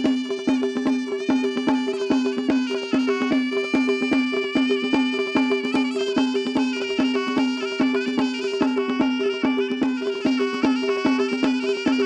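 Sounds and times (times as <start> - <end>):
reedy wind instrument melody: 0.0 - 12.0
steady drum rhythm: 0.0 - 12.0.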